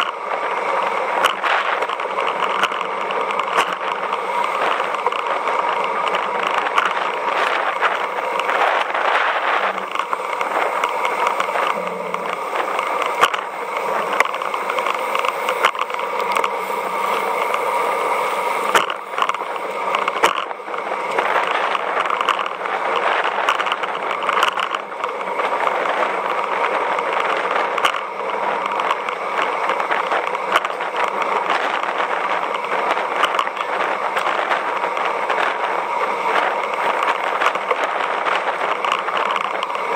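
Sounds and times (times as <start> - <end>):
clicks and rattles from bumps: 0.0 - 39.9
tyres rushing on asphalt: 0.0 - 39.9.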